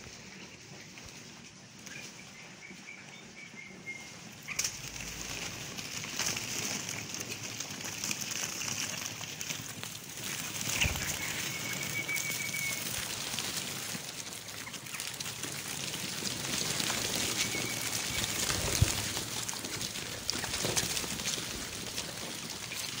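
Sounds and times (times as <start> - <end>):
chicks cheeping: 0.0 - 23.0.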